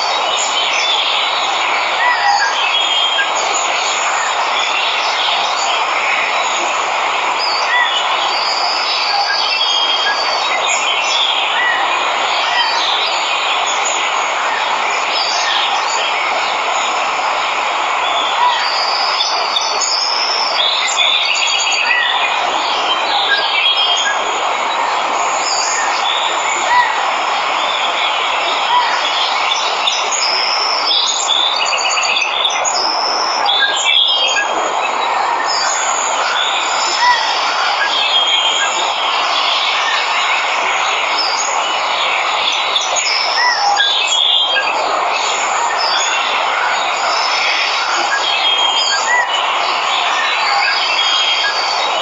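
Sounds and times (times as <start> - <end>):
waterfall rushing: 0.0 - 52.0
birds chirping: 0.2 - 52.0.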